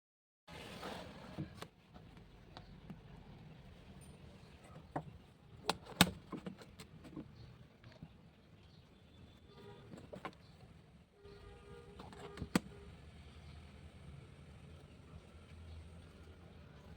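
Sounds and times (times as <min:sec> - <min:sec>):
low steady background noise: 0:00.6 - 0:16.9.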